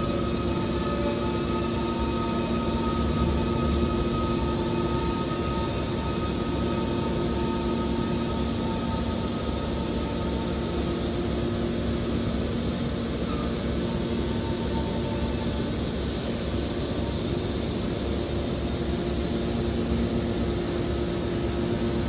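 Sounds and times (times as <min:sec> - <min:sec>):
industrial machinery humming: 0:00.0 - 0:22.0.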